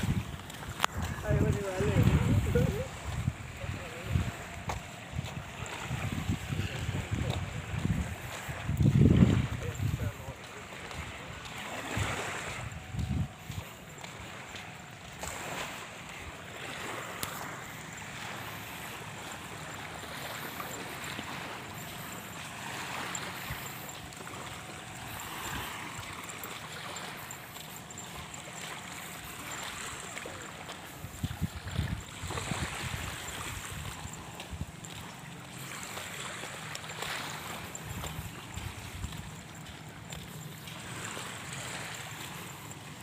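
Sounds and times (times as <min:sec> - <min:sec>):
wind buffeting microphone: 0:00.0 - 0:27.3, 0:28.1 - 0:42.4
small waves washing onto beach: 0:00.0 - 0:43.0.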